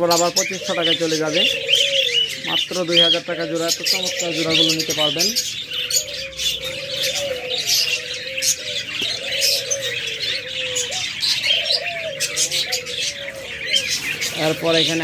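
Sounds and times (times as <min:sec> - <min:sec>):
budgerigars chattering and chirping: 0:00.0 - 0:15.0
doves cooing: 0:00.0 - 0:15.0.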